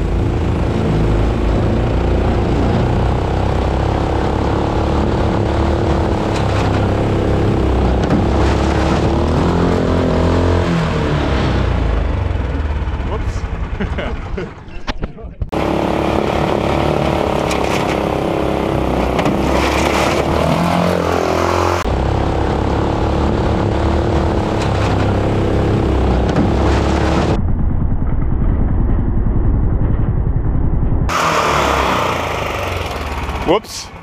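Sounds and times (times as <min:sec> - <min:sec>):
boat engine running hard: 0:00.0 - 0:14.7, 0:15.5 - 0:27.4, 0:31.1 - 0:34.0.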